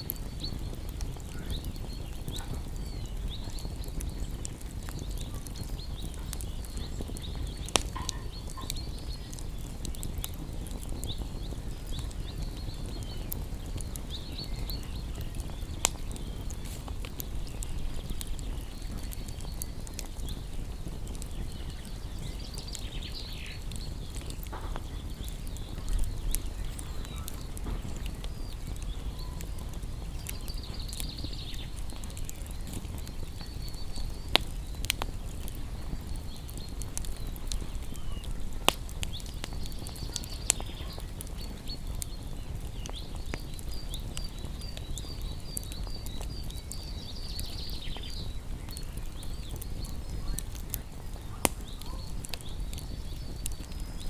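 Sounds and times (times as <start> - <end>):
small birds chirping: 0.0 - 54.0
wood fire crackling and popping: 0.0 - 54.0.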